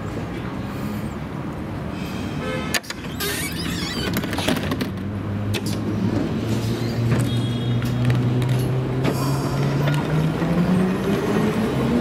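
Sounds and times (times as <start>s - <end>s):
low tram hum: 0.0s - 12.0s.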